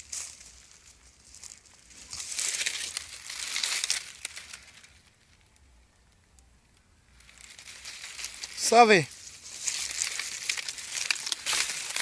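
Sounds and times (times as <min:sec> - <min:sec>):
dry material crackling: 0:00.0 - 0:12.0.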